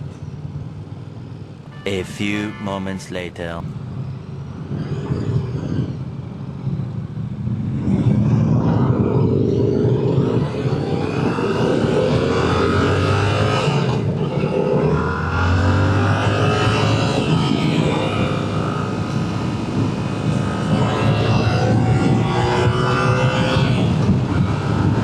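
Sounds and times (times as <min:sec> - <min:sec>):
steady rush noise: 0:00.0 - 0:25.0
motorcycle engine accelerating: 0:03.8 - 0:25.0.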